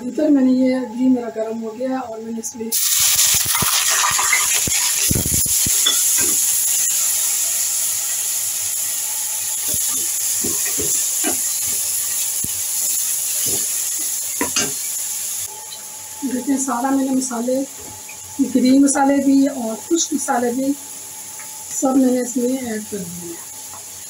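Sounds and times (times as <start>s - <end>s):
onions sizzling in pot: 2.7s - 24.0s.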